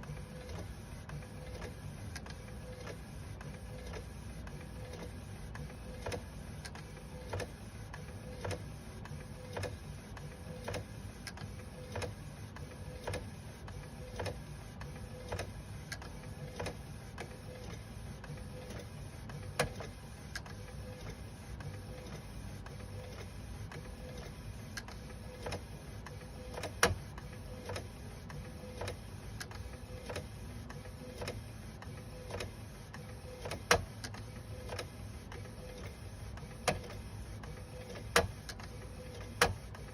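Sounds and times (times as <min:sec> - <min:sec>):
printer humming: 0:00.0 - 0:39.9.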